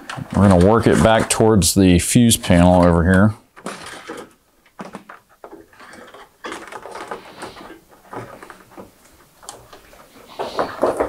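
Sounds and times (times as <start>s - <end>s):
wire rustling and scraping: 0.1s - 1.7s, 2.4s - 11.0s.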